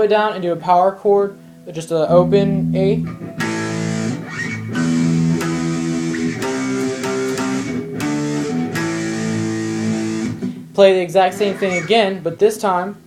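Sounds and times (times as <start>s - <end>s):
guitar power chords ringing: 1.2s - 12.3s.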